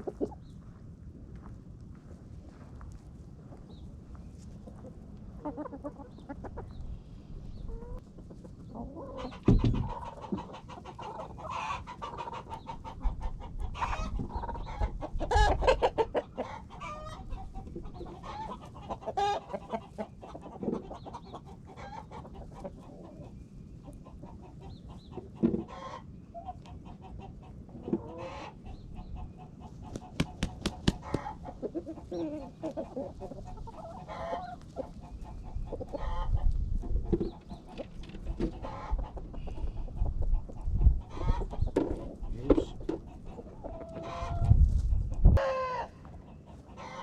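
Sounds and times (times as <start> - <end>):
chickens clucking: 0.0 - 0.7, 2.9 - 47.0.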